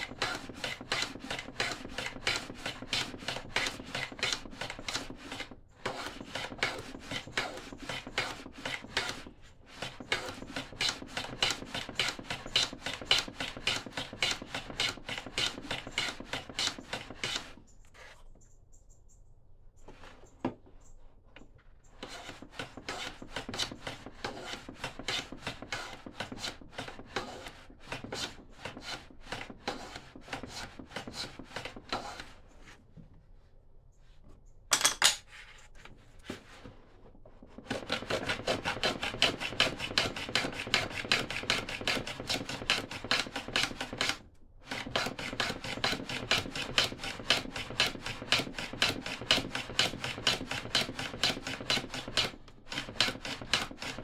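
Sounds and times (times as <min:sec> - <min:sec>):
hand tool rasping on wood: 0:00.0 - 0:18.1, 0:22.0 - 0:32.3, 0:37.6 - 0:54.0.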